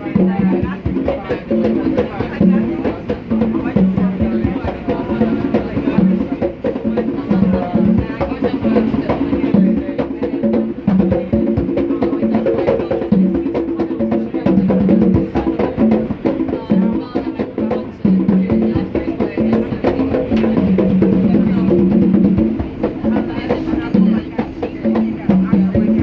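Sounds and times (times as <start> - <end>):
drummers playing: 0.0 - 26.0.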